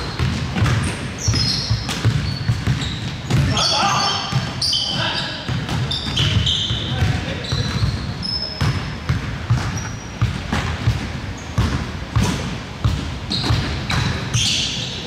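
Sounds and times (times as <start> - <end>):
basketball bouncing on gym floor: 0.0 - 14.7
sneaker squeaks: 0.0 - 15.0.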